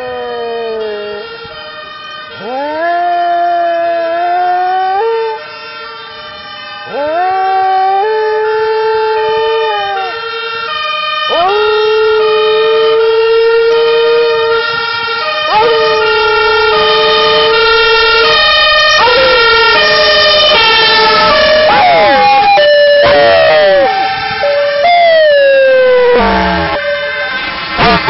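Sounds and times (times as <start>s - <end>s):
dog howling: 0.0s - 1.2s, 2.4s - 5.4s, 6.9s - 10.2s, 11.3s - 14.6s, 15.2s - 26.8s
fire engine two-tone siren: 0.0s - 28.0s.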